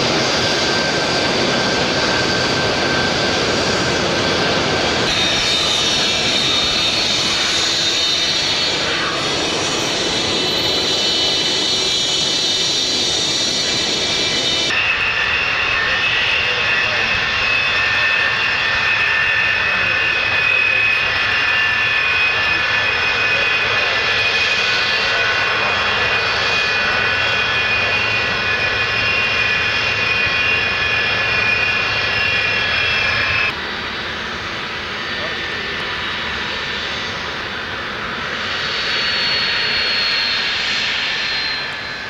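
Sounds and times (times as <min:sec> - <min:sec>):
jet engines whining and roaring: 0:00.0 - 0:42.0
quieter jet engine noise: 0:00.0 - 0:42.0.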